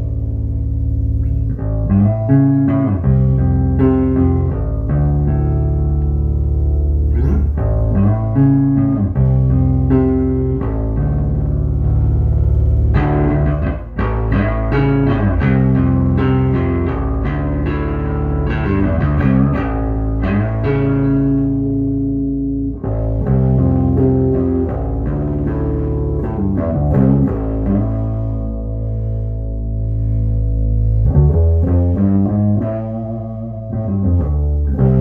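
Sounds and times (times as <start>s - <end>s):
electric bass plucked notes: 0.0s - 35.0s.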